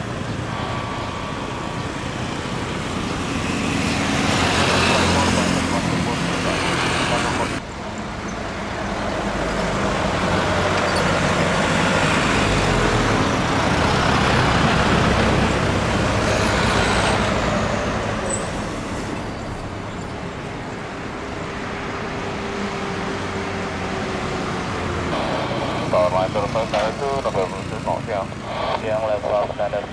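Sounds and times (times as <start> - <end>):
jet engines rushing hum: 0.0 - 29.9.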